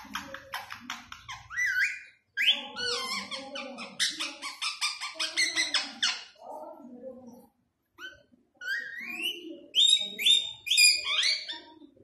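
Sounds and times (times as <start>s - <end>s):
parakeet chattering and mimicking speech: 0.0s - 12.0s.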